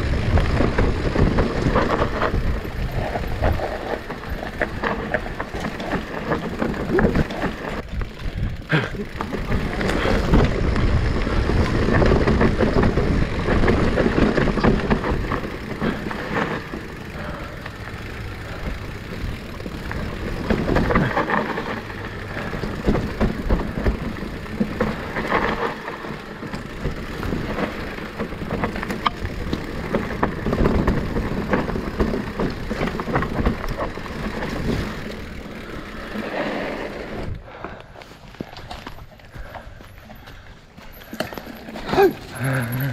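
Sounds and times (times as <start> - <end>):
bike frame rattling: 0.0 - 42.9
bike tyres rolling over rough ground: 0.0 - 42.9.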